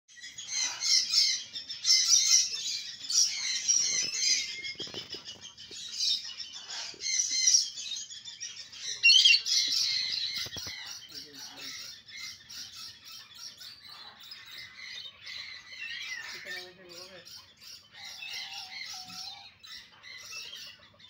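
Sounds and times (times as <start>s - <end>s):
birds chirping chorus: 0.1s - 21.0s.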